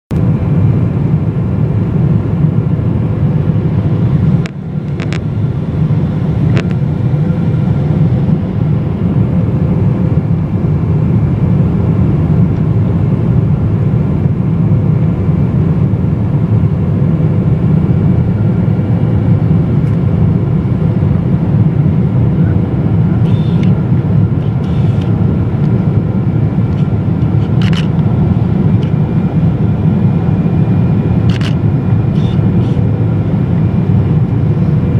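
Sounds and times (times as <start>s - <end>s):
airplane cabin engine roar: 0.1s - 34.9s.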